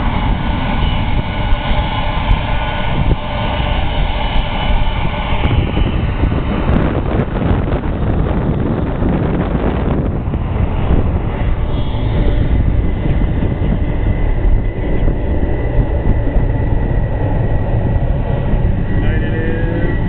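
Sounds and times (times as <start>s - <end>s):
high engine whine: 0.0s - 20.0s
jet engines rumbling: 0.0s - 20.0s.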